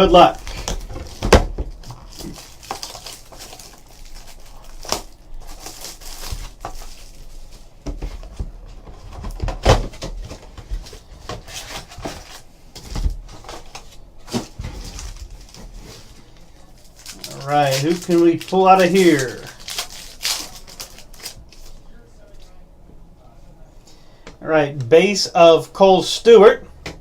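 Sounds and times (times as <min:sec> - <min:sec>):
packaging rustling and crinkling: 0:00.0 - 0:21.9.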